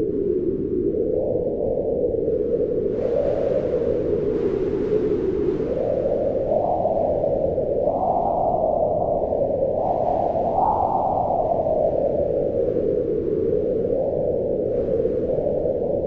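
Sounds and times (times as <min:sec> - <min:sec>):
wind howling in gusts: 0:00.0 - 0:16.0.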